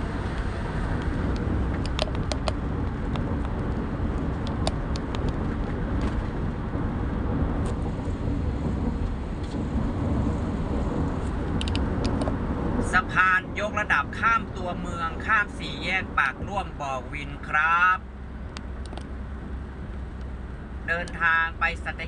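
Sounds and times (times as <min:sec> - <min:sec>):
vehicle road and engine noise: 0:00.0 - 0:22.0.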